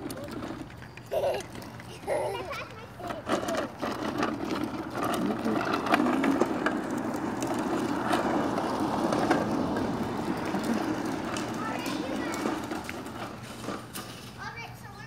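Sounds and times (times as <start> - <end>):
plastic wheels rolling on concrete: 0.0 - 15.0.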